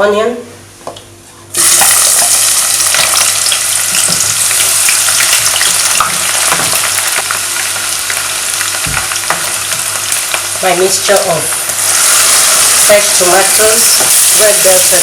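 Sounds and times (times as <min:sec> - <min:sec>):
onions sizzling in hot oil: 0:01.6 - 0:15.0.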